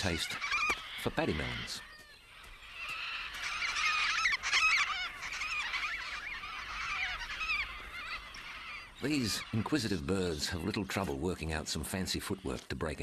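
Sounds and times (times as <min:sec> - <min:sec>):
flock of cockatoos calling: 0:00.0 - 0:11.2.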